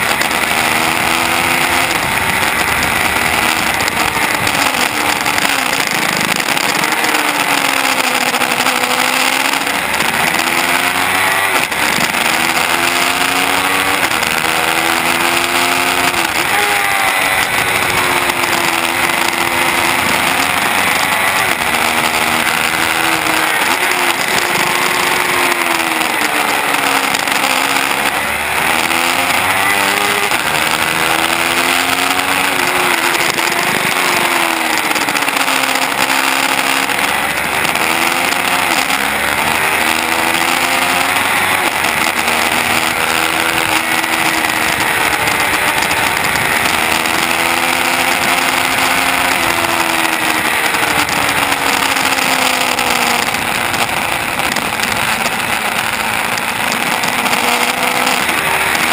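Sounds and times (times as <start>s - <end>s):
motorcycle engine revving hard: 0.0s - 58.9s.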